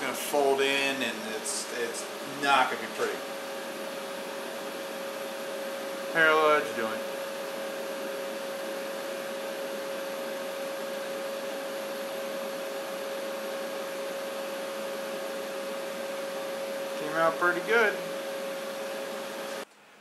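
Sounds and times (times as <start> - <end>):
machine fan whirring: 0.0 - 19.9.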